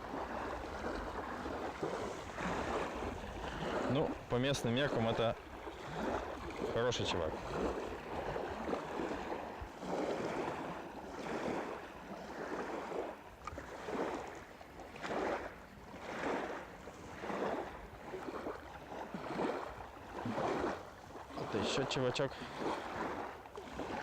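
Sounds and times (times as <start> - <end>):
small waves lapping: 0.0 - 24.0
wind: 0.0 - 24.0.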